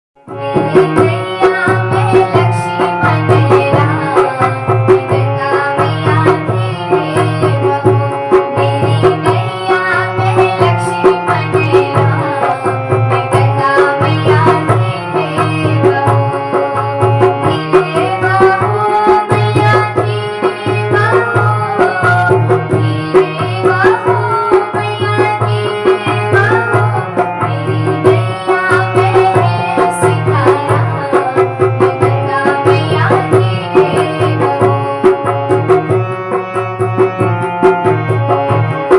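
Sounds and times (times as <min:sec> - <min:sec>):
tabla rhythm: 0:00.2 - 0:38.9
devotional music with drum beat: 0:00.3 - 0:38.9
melodic instrumental line: 0:00.3 - 0:38.9.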